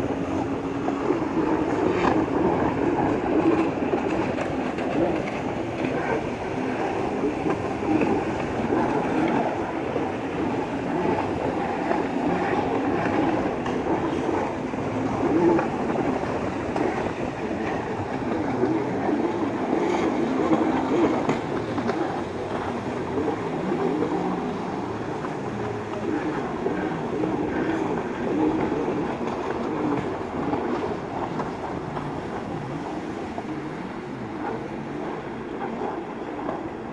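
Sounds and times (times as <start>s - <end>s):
jet ski engines racing: 0.0s - 36.9s.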